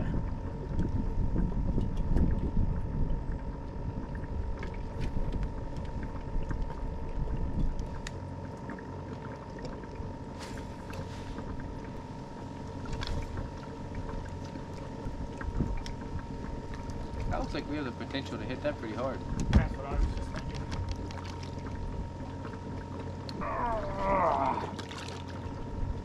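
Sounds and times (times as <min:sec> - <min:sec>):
wind rumbling on microphone: 0:00.0 - 0:08.1, 0:10.0 - 0:26.0
faint hum: 0:00.0 - 0:26.0.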